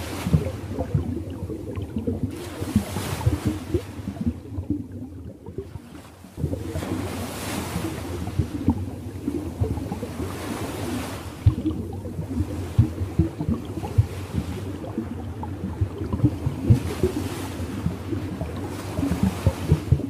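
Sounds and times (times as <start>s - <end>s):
water lapping in small waves: 0.0s - 20.0s.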